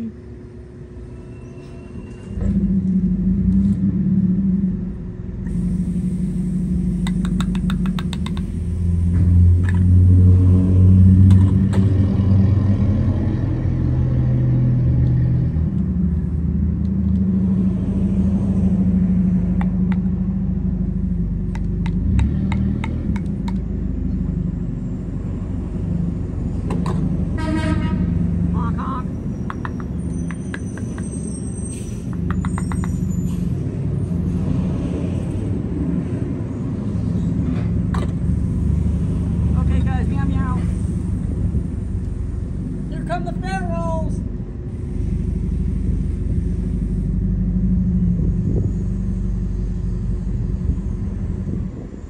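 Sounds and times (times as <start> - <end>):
engine running low rumble: 0.0 - 52.0.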